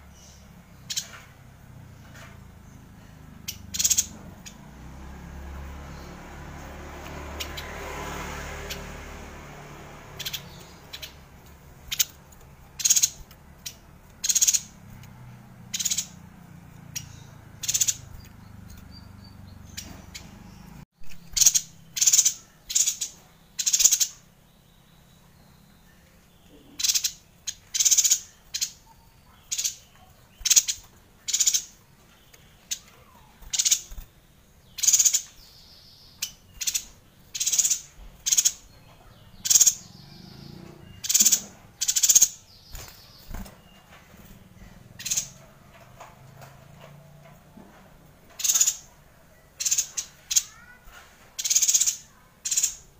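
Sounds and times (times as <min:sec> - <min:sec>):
bird chirping high-pitched: 0:00.0 - 0:45.6, 0:48.0 - 0:52.9.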